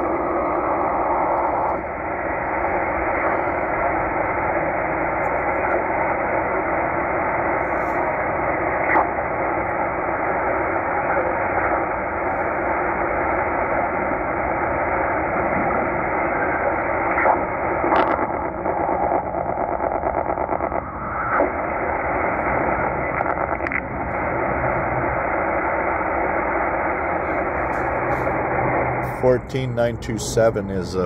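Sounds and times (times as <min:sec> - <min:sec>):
radio signal blips and clicks: 0:00.0 - 0:31.0
radio static: 0:00.0 - 0:31.0.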